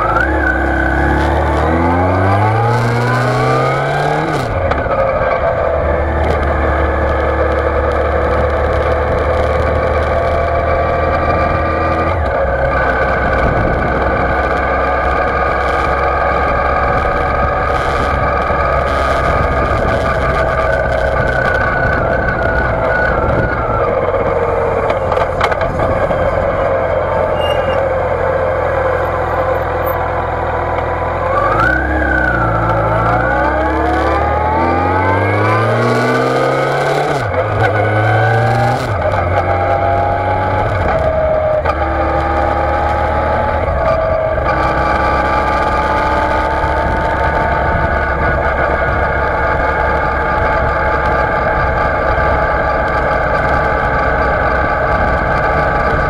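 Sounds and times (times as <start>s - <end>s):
muffled motorcycle engine: 0.0s - 56.0s
wind and road noise: 0.0s - 56.0s.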